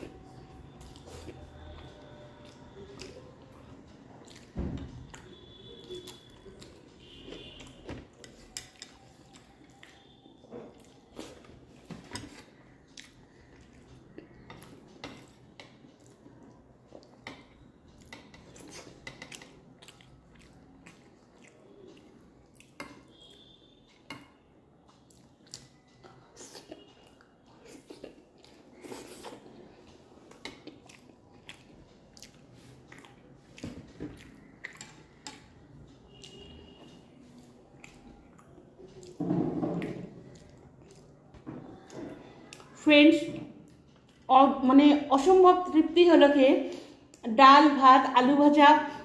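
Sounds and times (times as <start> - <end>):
chewing and mouth clicks: 0.0 - 11.6, 12.3 - 24.1, 24.8 - 39.2, 39.8 - 42.8, 43.6 - 44.3
wet squishing of food: 0.0 - 23.9, 24.6 - 42.8.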